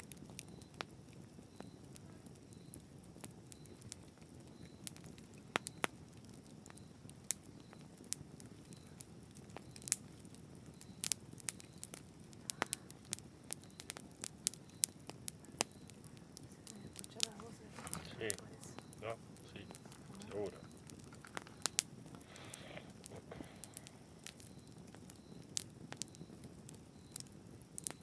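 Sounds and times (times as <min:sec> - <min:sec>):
campfire pops and snaps: 0:00.0 - 0:28.0
hiss of burning: 0:00.0 - 0:28.0.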